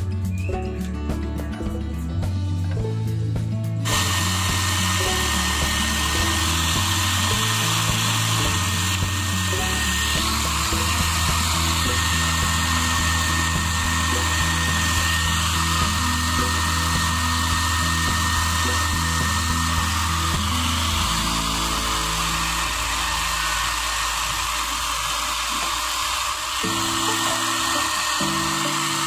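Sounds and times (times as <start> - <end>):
background music: 0.0 - 24.2, 26.6 - 29.0
hair dryer running: 3.8 - 29.0.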